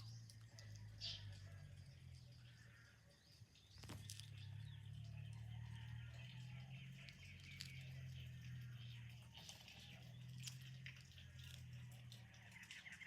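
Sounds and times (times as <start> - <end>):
faint birds chirping: 0.0 - 13.0
low steady hum: 0.0 - 13.0.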